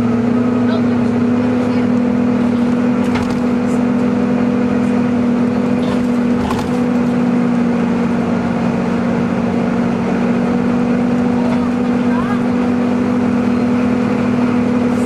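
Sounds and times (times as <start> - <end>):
bus engine whine: 0.0 - 15.0.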